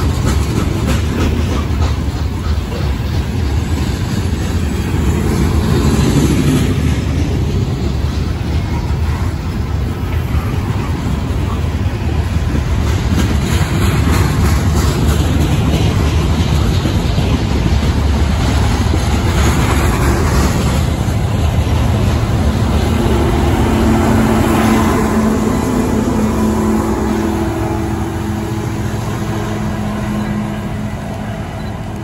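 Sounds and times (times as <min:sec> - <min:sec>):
diesel locomotive hum: 0:00.0 - 0:32.0
steel wheels clattering on rail: 0:00.0 - 0:32.0.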